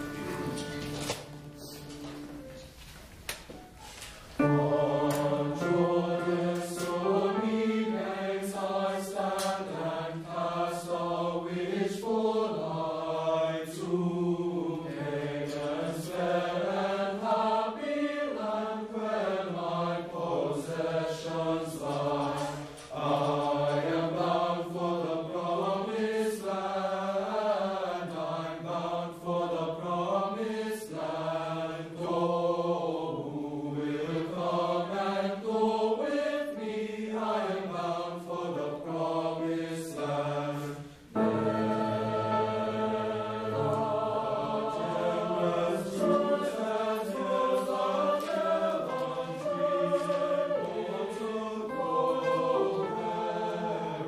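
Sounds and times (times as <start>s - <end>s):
boys' choir singing: 4.4s - 54.0s.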